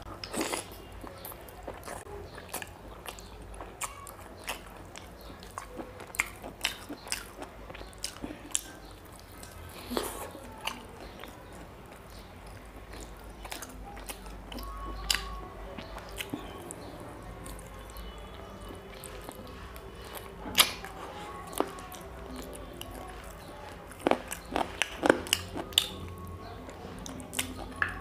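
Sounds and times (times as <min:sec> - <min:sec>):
wet chewing with smacks: 0:00.2 - 0:28.0.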